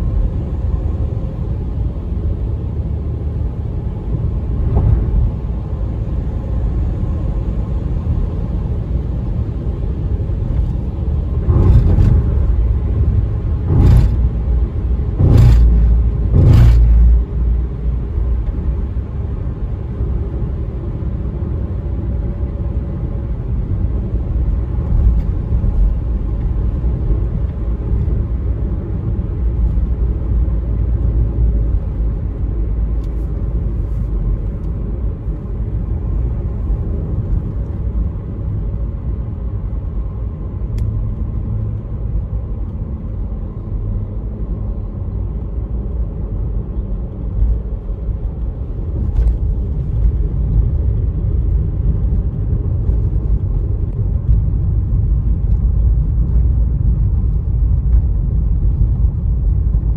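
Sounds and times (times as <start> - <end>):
car tyre and engine rumble: 0.0 - 59.9.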